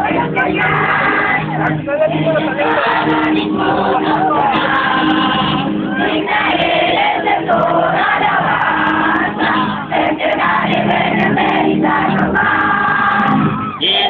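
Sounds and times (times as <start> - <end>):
crowd noise: 0.0 - 14.0
many voices singing with music: 0.0 - 14.0.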